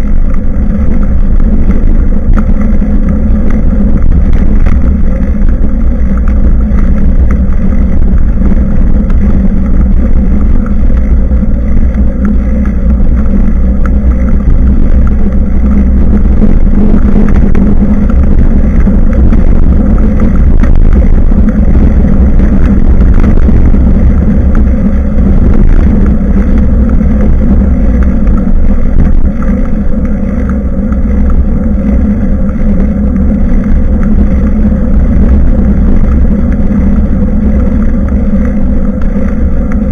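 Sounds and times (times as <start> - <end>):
bicycle road noise: 0.0 - 39.9
wind rumble on microphone: 0.0 - 39.9.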